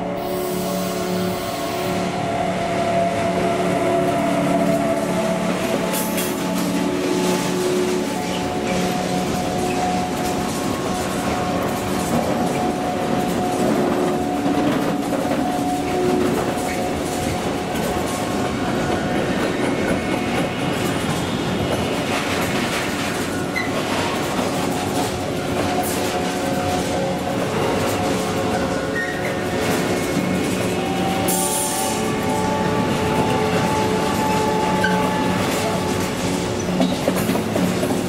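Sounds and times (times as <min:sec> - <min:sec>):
train wheels clickety-clack: 0:04.4 - 0:38.0.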